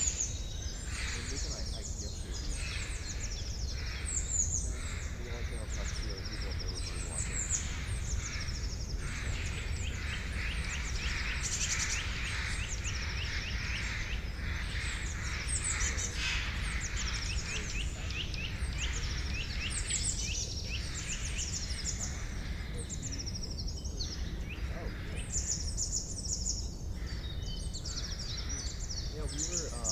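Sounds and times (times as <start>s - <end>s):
birds chirping and singing: 0.0s - 29.9s.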